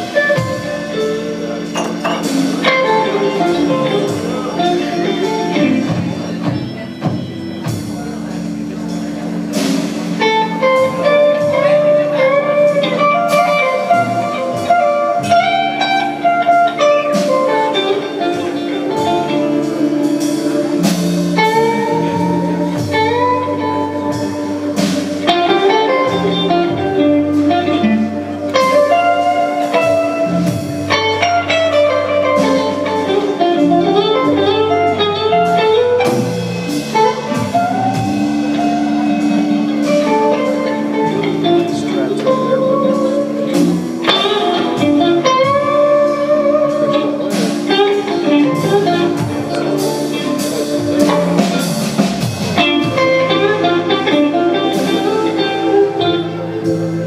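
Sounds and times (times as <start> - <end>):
bass: 0.0 - 57.0
drums: 0.0 - 57.0
electric guitar lead: 0.0 - 57.0
organ chords: 0.0 - 57.0.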